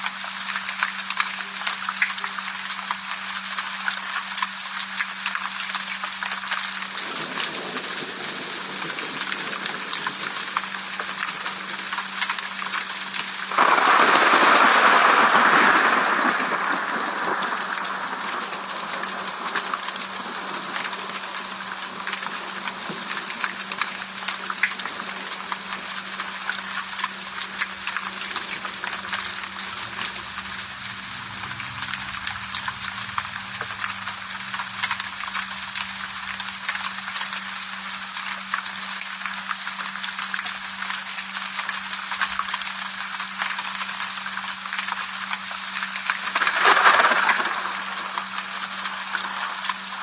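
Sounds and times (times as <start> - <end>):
rain patter: 0.0 - 50.0.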